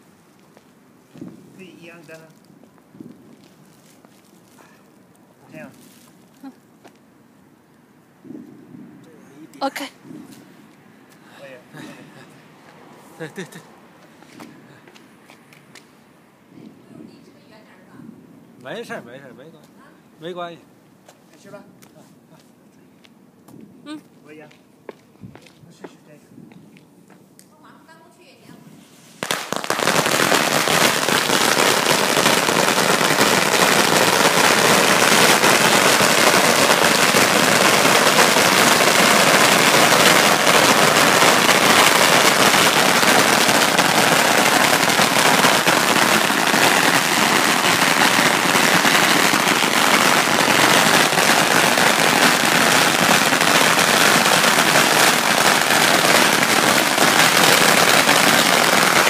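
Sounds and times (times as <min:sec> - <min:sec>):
string firecrackers crackling: 0:00.0 - 0:07.1, 0:07.7 - 0:19.8, 0:28.6 - 0:59.0.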